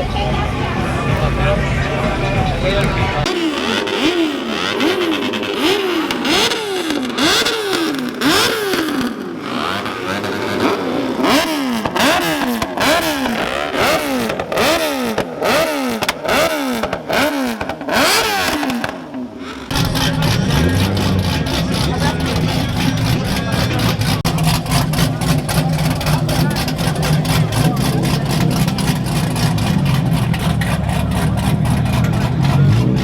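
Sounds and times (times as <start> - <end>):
car engine revving in blips: 0.0 - 33.0.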